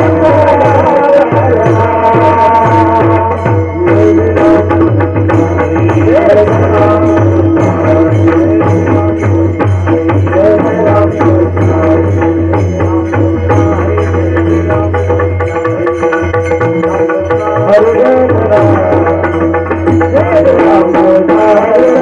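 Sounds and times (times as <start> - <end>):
drum playing steady rhythm: 0.0 - 22.0.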